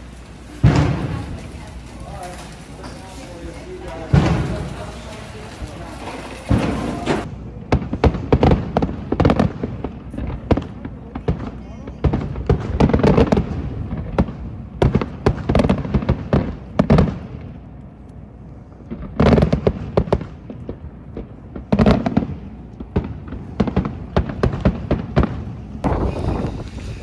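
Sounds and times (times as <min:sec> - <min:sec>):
fireworks popping: 0:00.0 - 0:17.6, 0:18.9 - 0:27.0.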